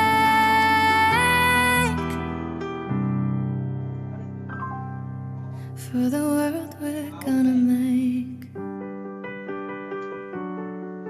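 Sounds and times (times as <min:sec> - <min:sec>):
piano playing pop ballad: 0:00.0 - 0:11.0.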